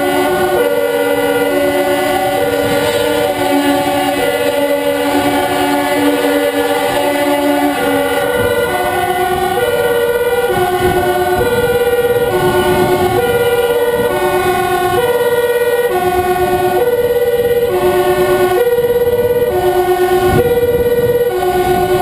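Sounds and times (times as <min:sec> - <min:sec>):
fire engine engine and road noise: 0:00.0 - 0:22.0
two-tone emergency sirens: 0:00.0 - 0:22.0.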